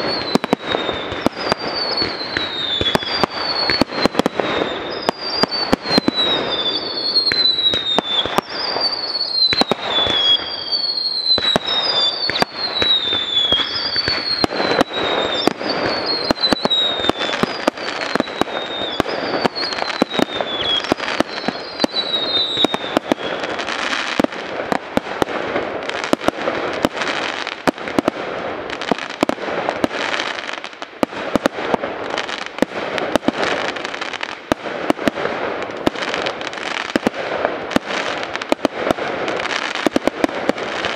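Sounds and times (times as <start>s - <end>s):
fireworks bangs: 0.0s - 40.9s
fireworks crackling: 0.0s - 40.9s
whistling fireworks: 0.0s - 40.9s.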